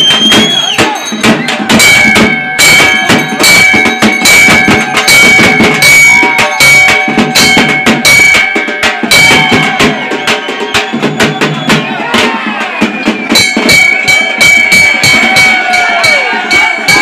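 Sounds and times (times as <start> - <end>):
heavy drum beat: 0.0 - 17.0.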